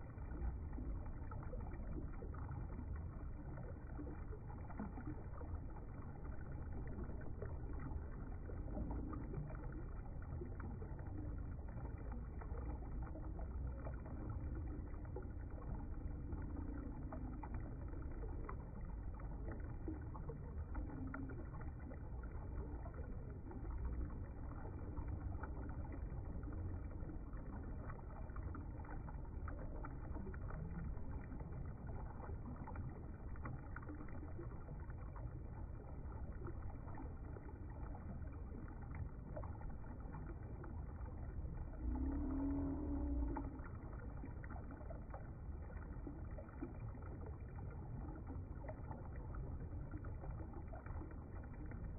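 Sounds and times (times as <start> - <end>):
river water rippling over stones: 0.0 - 51.9.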